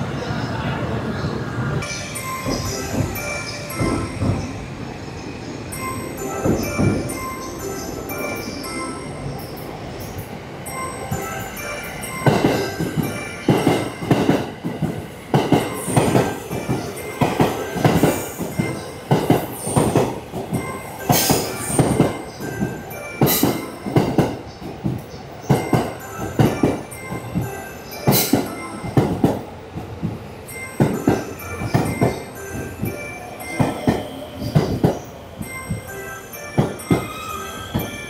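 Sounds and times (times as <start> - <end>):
train steady rumble: 0.0 - 38.0.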